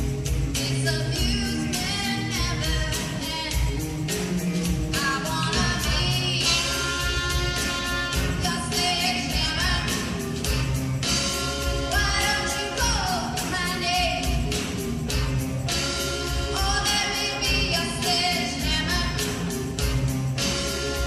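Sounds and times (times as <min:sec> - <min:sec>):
pop-rock song with vocals: 0:00.1 - 0:21.0.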